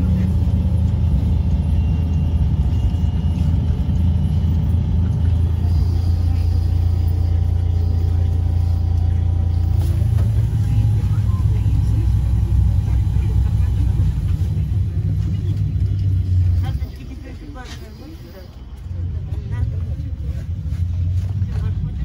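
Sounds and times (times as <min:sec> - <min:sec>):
low rumble of running gear: 0:00.0 - 0:17.3, 0:18.6 - 0:22.0.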